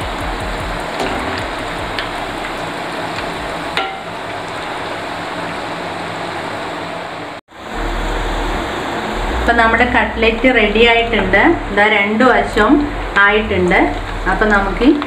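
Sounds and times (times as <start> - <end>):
chicken frying in hot oil: 0.0 - 9.2, 11.3 - 15.0.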